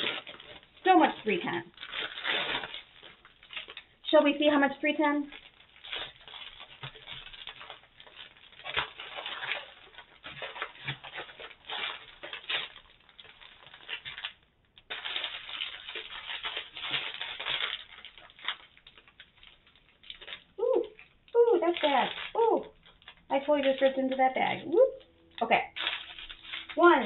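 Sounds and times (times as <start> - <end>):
plastic bags crinkling: 0.0 - 27.0.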